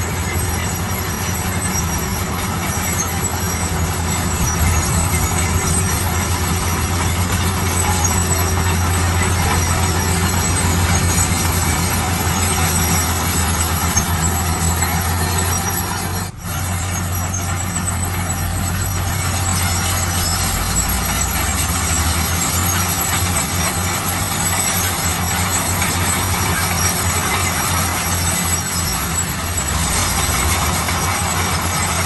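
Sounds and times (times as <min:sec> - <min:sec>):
heavy diesel machinery running: 0:00.0 - 0:32.0.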